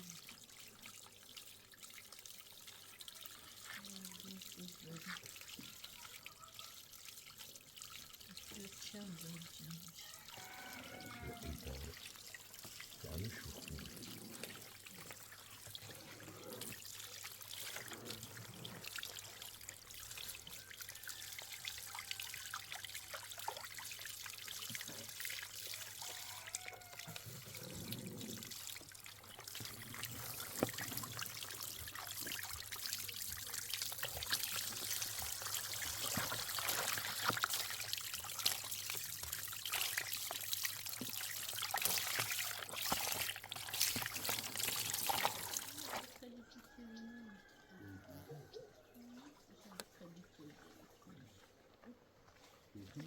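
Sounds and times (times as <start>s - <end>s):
small splashes and clicks: 0.0s - 46.2s, 49.1s - 53.0s
water trickling and pouring: 0.0s - 53.0s.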